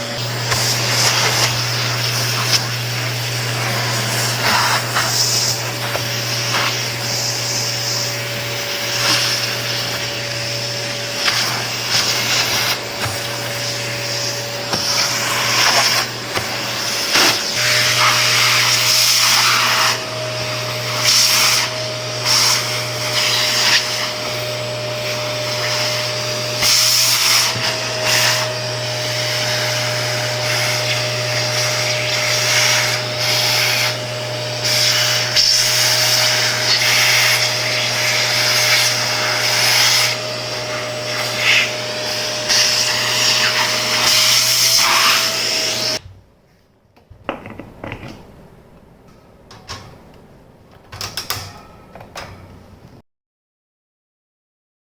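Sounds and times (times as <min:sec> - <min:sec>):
vacuum cleaner running: 0:00.0 - 0:46.1.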